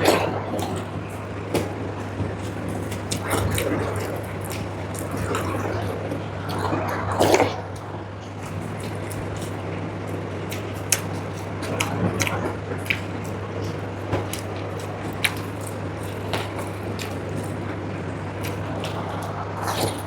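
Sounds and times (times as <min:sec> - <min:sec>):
low hum: 0:00.0 - 0:20.0
wet chewing: 0:00.0 - 0:20.0.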